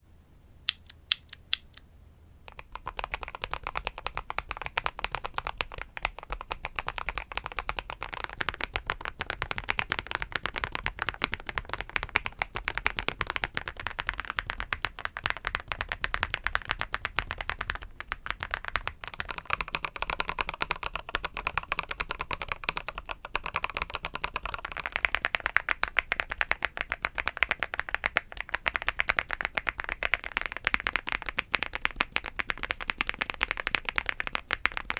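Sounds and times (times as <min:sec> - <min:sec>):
mechanical keyboard typing: 0:02.5 - 0:34.9.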